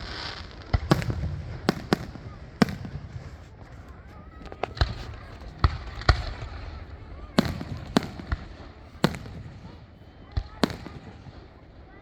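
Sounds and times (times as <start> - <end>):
fireworks booming and cracking: 0.0 - 12.0
people talking: 0.9 - 12.0.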